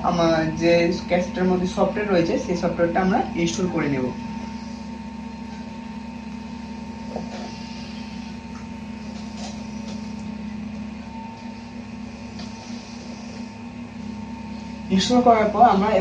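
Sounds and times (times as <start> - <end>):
desktop computer humming: 0.0 - 16.0.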